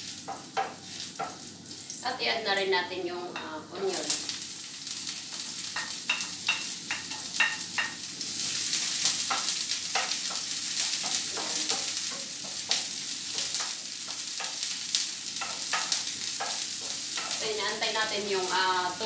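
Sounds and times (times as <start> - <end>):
onion and garlic sizzling in oil: 0.0 - 19.0.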